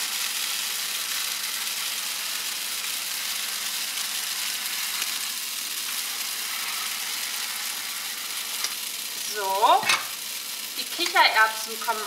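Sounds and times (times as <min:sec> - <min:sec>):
spaghetti sizzling in oil: 0:00.0 - 0:12.0.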